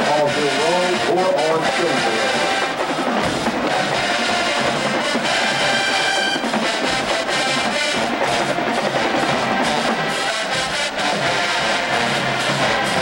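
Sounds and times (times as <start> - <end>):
drum line: 0.0 - 13.0
held brass chord: 0.0 - 13.0
marching band playing: 0.0 - 13.0.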